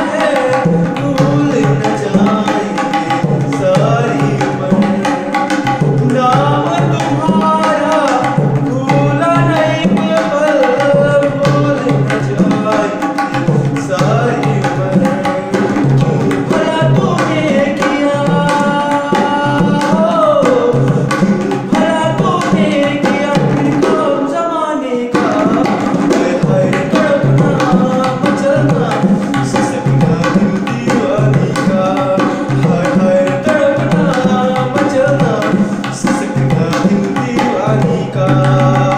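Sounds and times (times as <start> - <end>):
man singing: 0.0 - 38.9
tabla drums: 0.0 - 38.9.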